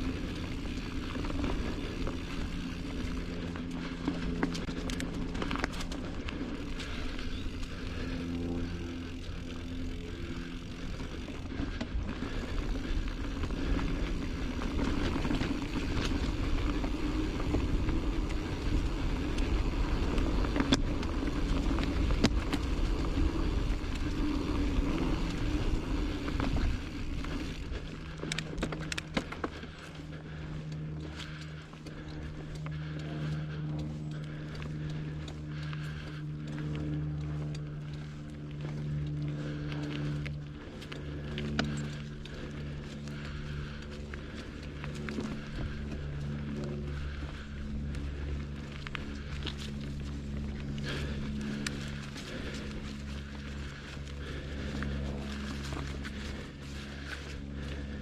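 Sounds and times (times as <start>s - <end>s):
bike clicks and rattles: 0.0s - 58.0s
bike tyres rumbling on dirt trail: 0.0s - 58.0s
low hum: 0.0s - 58.0s.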